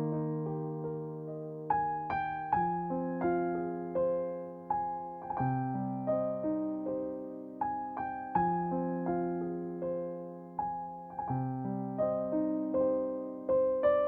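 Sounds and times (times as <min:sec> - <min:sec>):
gentle solo piano music: 0:00.0 - 0:14.0.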